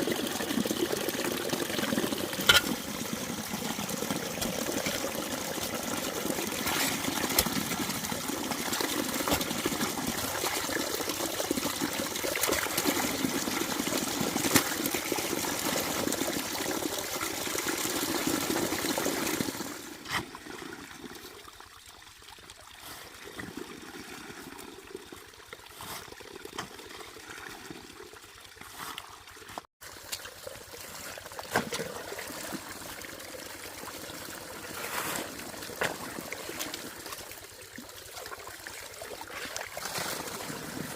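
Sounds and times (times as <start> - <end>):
water running and trickling: 0.0 - 40.9.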